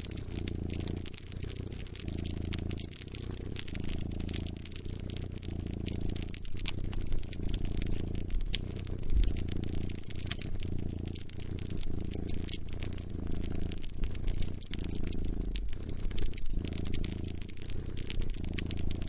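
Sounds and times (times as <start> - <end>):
cat purring: 0.0 - 19.0
wood fire crackling and popping: 0.0 - 19.0.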